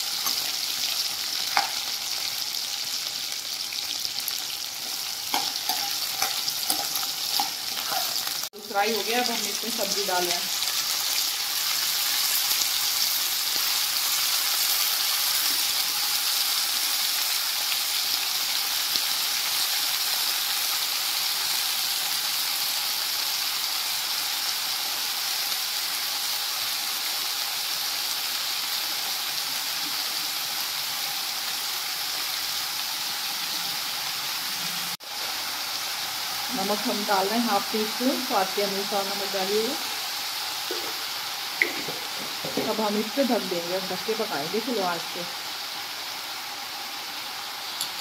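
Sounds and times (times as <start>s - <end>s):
vegetables sizzling in oil: 0.0s - 48.0s.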